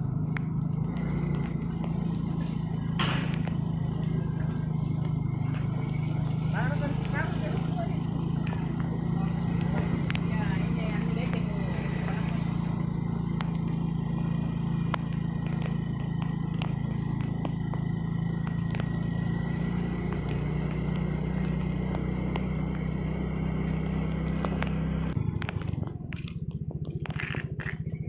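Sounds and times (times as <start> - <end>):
small engine idling: 0.0 - 28.0.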